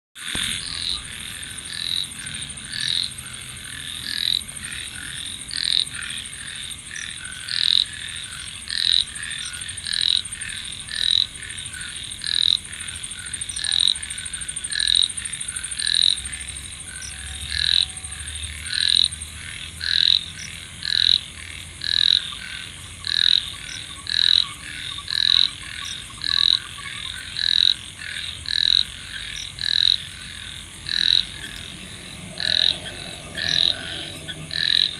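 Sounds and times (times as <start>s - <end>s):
frogs croaking in chorus: 0.2s - 34.9s
loud frog call: 0.2s - 34.9s.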